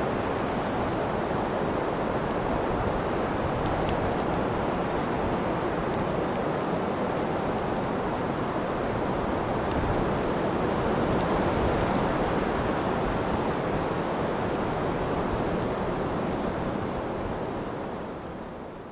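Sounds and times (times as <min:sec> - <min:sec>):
surf washing: 0:00.0 - 0:18.9
wind: 0:00.0 - 0:18.9.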